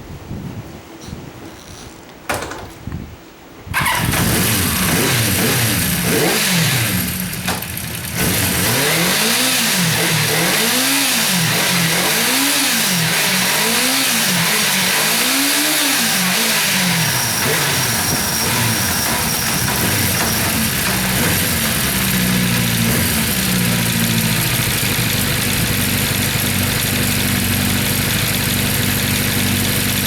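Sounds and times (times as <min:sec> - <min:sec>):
motorcycle engine starting: 0:03.7 - 0:30.0
motorcycle engine revving: 0:03.8 - 0:30.0.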